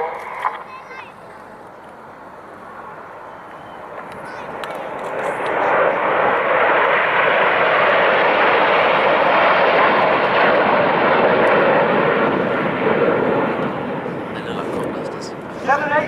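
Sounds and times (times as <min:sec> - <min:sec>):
jets passing overhead: 0:00.0 - 0:16.0.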